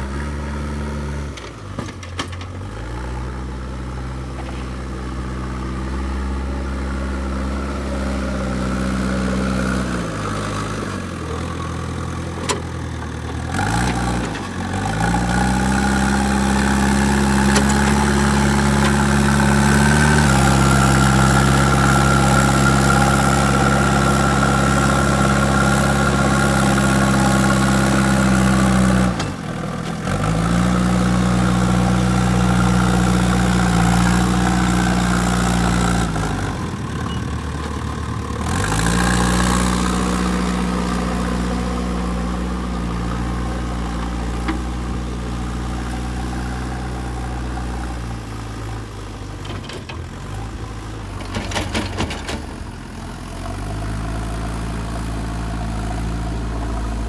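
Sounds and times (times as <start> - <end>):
diesel engine running at high speed: 0.0 - 57.0.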